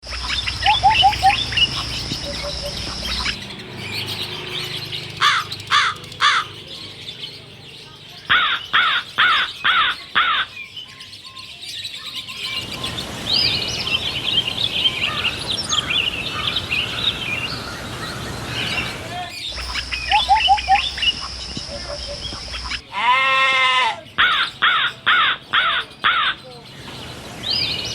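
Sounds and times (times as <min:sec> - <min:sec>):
birds calling and chirping: 0:00.0 - 0:27.9.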